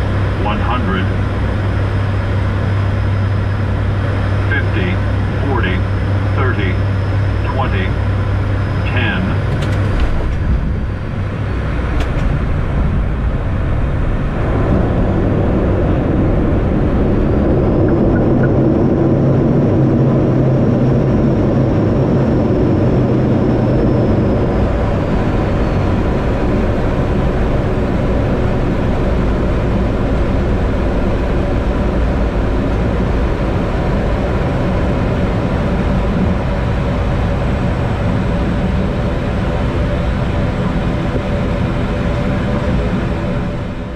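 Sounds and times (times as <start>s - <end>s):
turboprop engines droning: 0.0s - 43.9s.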